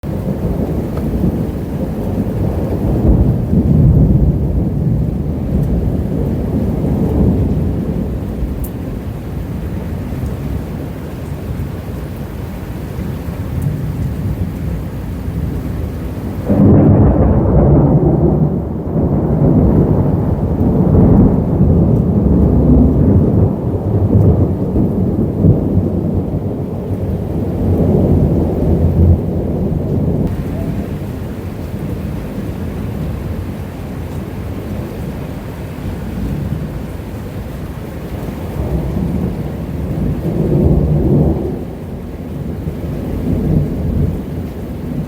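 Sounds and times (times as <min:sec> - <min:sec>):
rolling thunder: 0:00.0 - 0:11.8, 0:12.6 - 0:45.0
steady rain: 0:00.0 - 0:45.0.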